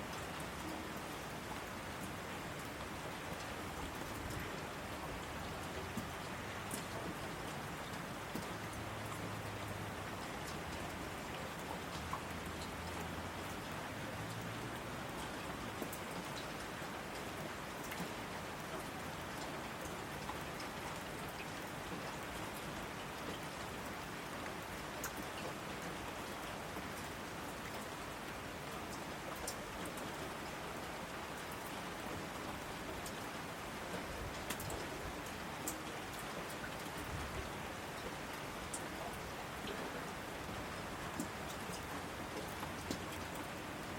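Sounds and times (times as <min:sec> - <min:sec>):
steady rain falling: 0:00.0 - 0:43.9
rain drop ticks: 0:02.0 - 0:30.4, 0:31.4 - 0:43.9.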